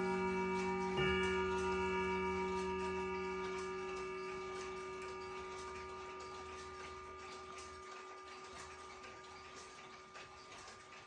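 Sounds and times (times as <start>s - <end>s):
clock chime rod ringing: 0.0s - 11.0s.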